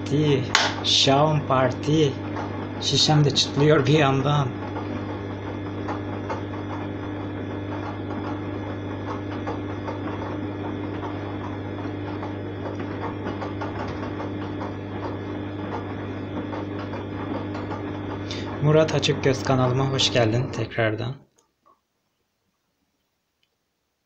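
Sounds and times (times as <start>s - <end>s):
washing machine motor humming: 0.0s - 21.4s.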